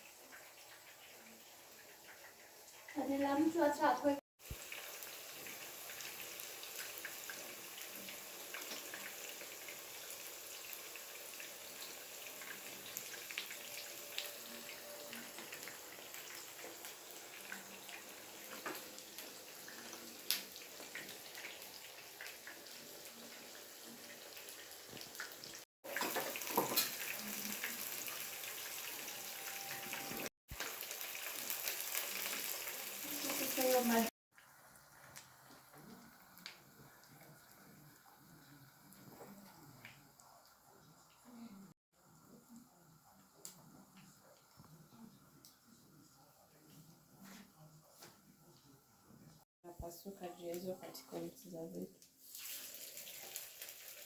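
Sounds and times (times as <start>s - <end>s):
cutlets sizzling in hot oil: 0.0s - 41.2s, 50.5s - 54.0s.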